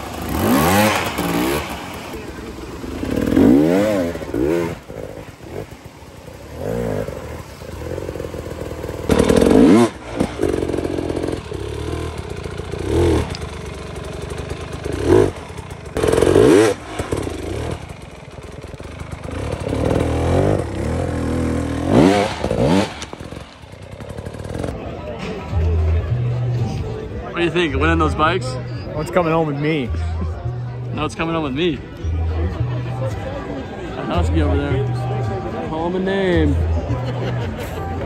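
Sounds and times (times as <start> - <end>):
two-stroke motorcycle revving: 0.0 - 38.0.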